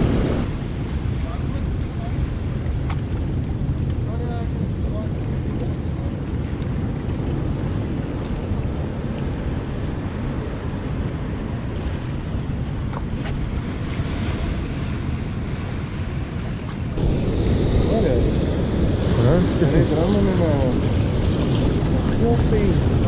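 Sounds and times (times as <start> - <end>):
surf washing over rocks: 0.0 - 23.0
wind buffeting microphone: 0.0 - 23.0.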